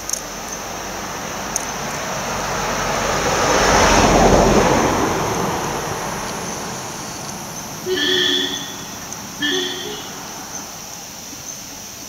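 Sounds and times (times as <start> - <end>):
vehicle passing: 0.4 - 11.1.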